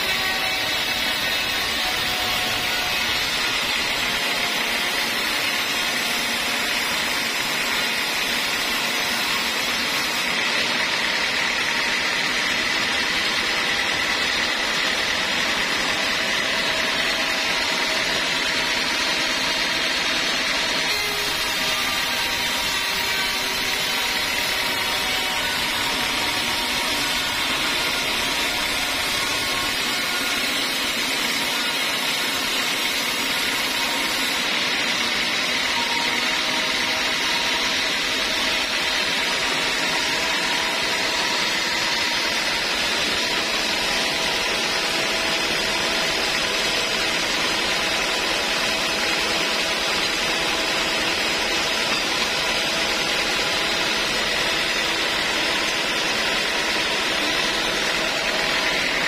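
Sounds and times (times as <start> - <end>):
band sawmill cutting log: 0.0 - 59.0.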